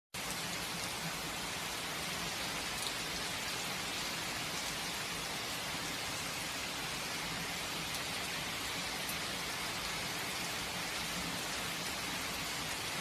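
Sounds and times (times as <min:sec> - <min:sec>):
rain pattering on surfaces: 0:00.2 - 0:13.0.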